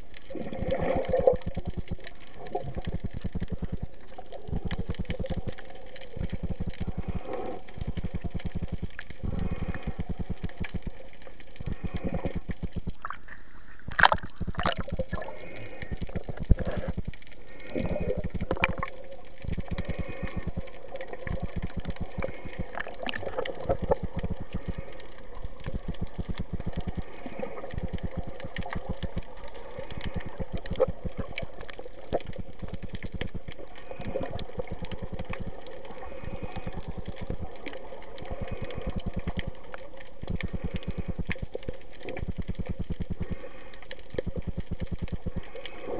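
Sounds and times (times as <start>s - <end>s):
crackling and clicking underwater: 0.0s - 45.9s
muffled underwater rush: 0.0s - 45.9s.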